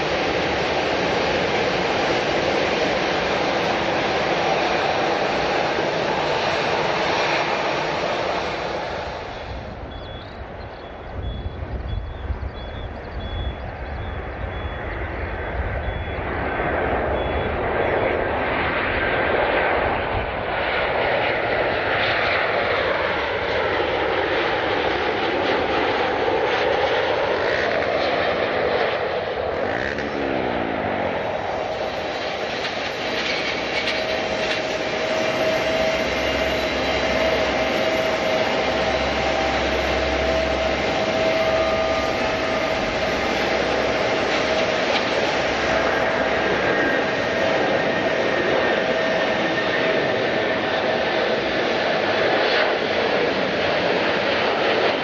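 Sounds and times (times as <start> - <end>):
jet airliner engines passing: 0.0 - 55.0.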